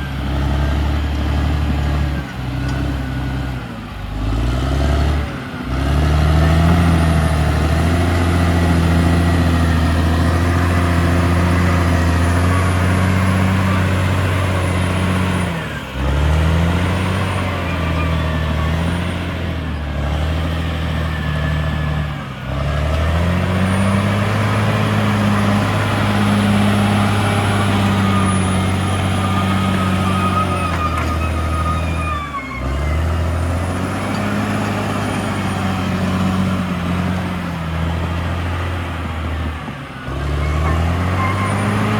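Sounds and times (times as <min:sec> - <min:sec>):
bulldozer diesel engine revving: 0:00.0 - 0:41.9.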